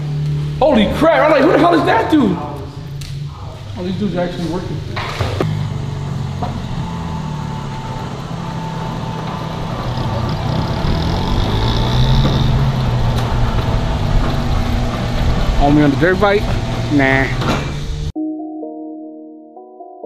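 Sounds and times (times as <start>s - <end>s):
garage door opener motor hum: 0.0s - 18.1s.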